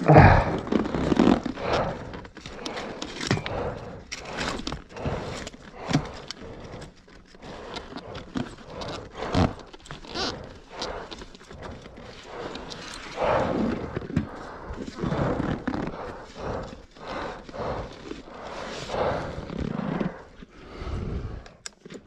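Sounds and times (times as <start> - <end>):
person breathing hard: 0.0 - 21.8.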